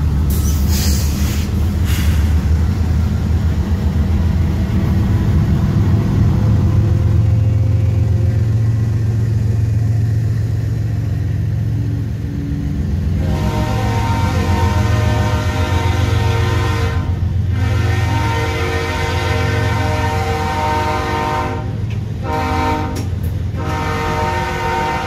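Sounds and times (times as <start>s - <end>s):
boxcars rolling: 0.0s - 25.0s
locomotive engine rumble: 0.0s - 25.0s.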